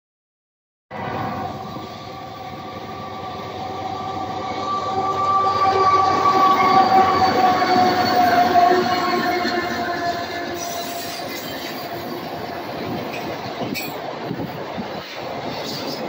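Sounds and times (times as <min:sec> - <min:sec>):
high-pitched squealing: 0:00.9 - 0:14.0
freight train rumbling past: 0:00.9 - 0:16.0.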